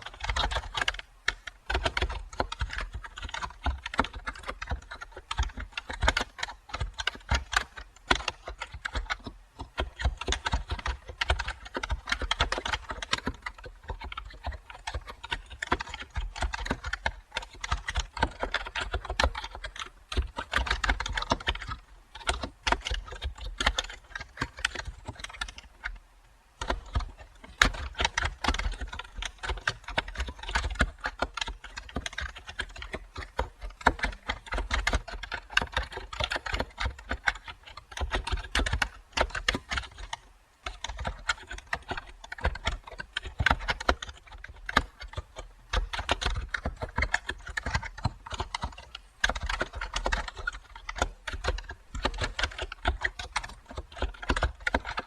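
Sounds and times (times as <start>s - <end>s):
typing on computer keyboard: 0.0s - 26.0s, 26.6s - 55.0s.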